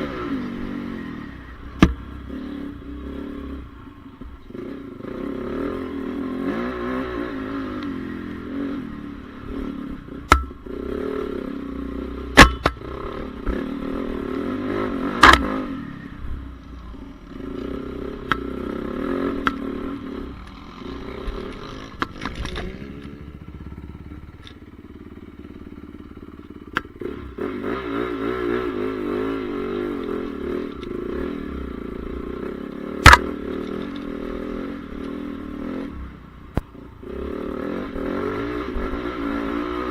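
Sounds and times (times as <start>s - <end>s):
motocross bike engine revving: 0.0s - 3.8s, 4.4s - 16.1s, 17.3s - 39.9s.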